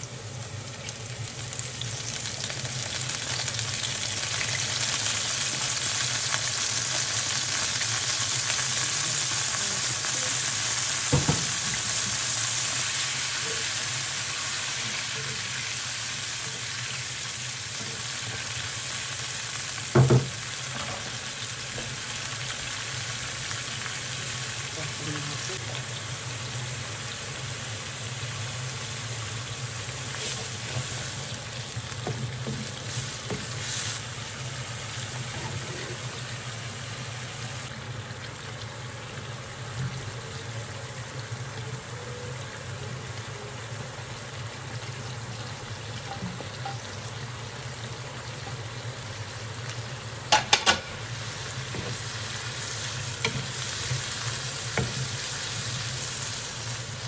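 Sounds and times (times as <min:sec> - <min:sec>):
garlic sizzling in a frying pan: 0:00.0 - 0:57.0.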